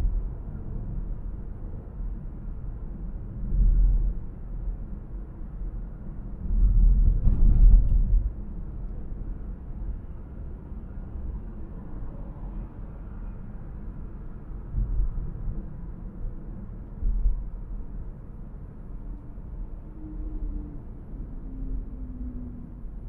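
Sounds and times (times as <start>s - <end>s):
muffled car driving rumble: 0.0s - 23.0s.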